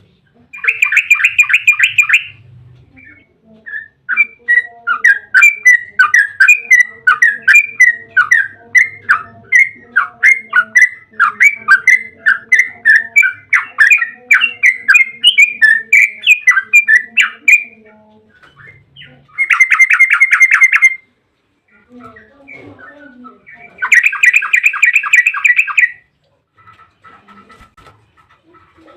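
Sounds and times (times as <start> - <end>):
bird singing chattering phrases: 0.5 - 27.7
bird trill: 0.6 - 2.4, 3.0 - 21.1, 21.7 - 26.1.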